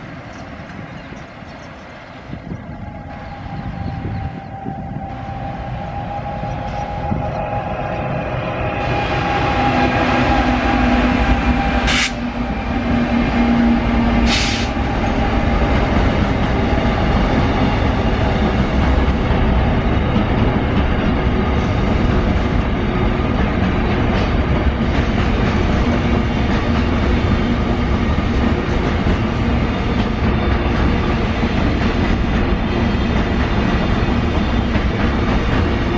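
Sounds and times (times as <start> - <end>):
train passing at high speed: 0.0 - 35.9.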